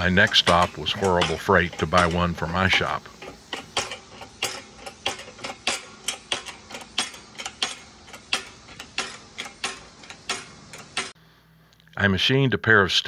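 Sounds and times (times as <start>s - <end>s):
hydraulic press clicking: 0.0s - 11.2s.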